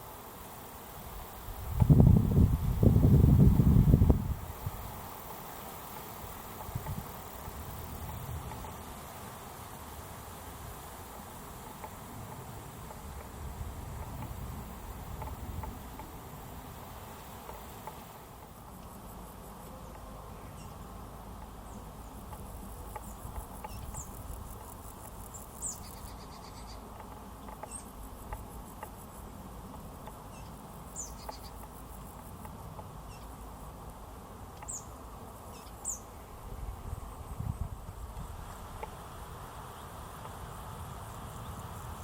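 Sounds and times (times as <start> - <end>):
insects trilling: 0.0 - 42.0
low background hiss: 0.0 - 42.0.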